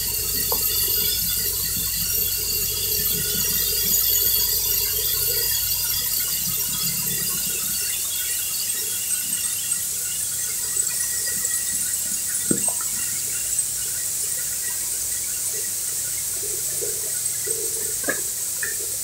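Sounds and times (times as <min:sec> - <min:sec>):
compressed air whistling squeal: 0:00.0 - 0:16.3.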